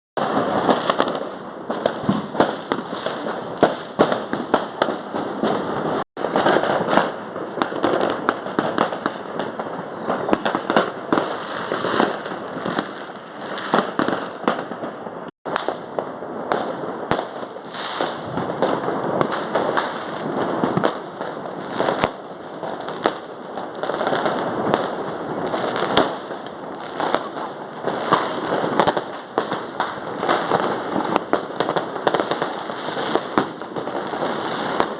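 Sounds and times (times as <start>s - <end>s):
fireworks and firecrackers banging: 0.2s - 34.9s.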